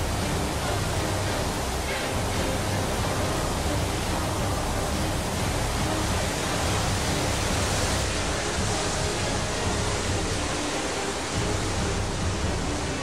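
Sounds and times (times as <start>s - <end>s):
floodwater rushing from spillway: 0.0s - 13.0s.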